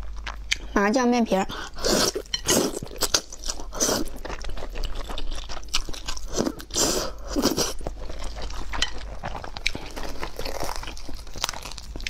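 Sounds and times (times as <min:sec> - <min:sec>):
wet chewing: 0:01.4 - 0:12.0.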